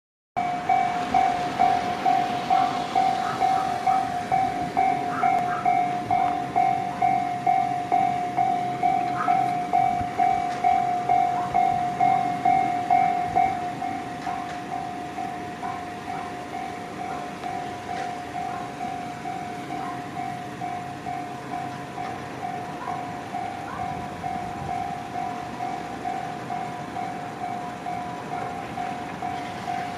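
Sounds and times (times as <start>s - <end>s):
level-crossing warning bell: 0.4s - 29.9s.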